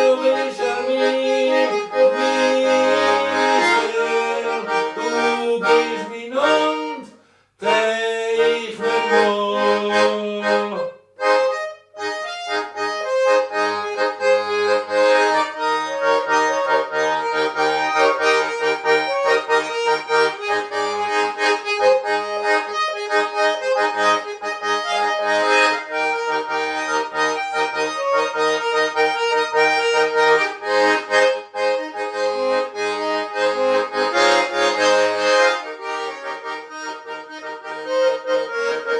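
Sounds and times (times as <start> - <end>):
button accordion folk tune: 0.0 - 38.9.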